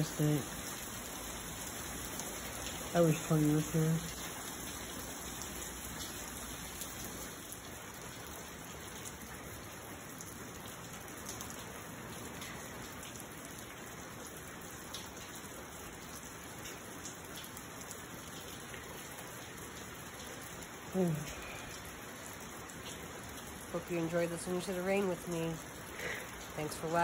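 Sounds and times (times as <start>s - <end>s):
raindrop ticks: 0.0s - 27.0s
steady rain hiss: 0.0s - 27.0s.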